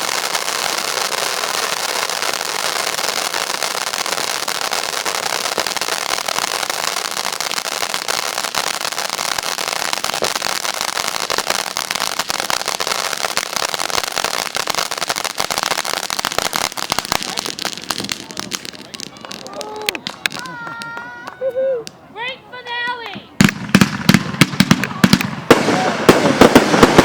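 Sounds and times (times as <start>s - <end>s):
fireworks crackling: 0.0s - 27.0s.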